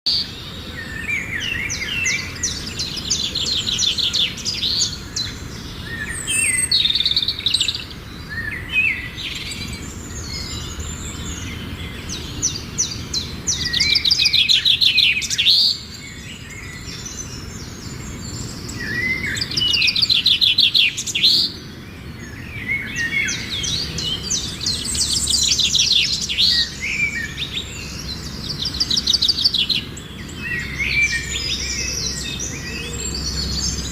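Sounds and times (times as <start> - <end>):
songbird trills and whistles: 0.1 - 21.6, 22.2 - 33.9.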